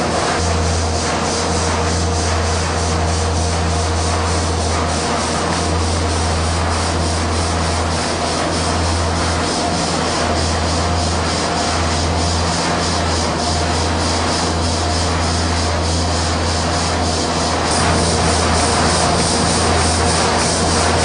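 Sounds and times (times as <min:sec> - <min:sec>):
stationary engine running: 0:00.0 - 0:21.0.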